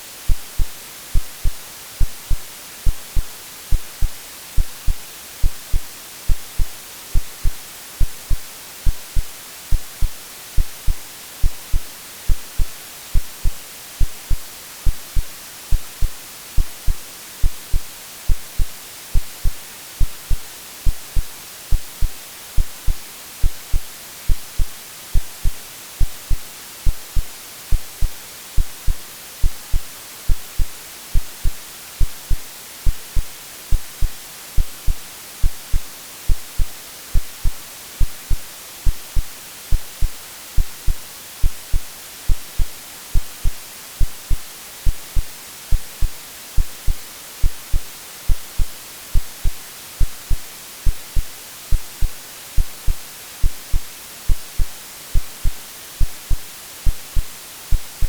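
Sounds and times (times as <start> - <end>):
white noise hiss: 0.0 - 58.0
heartbeat thumps: 0.3 - 58.0.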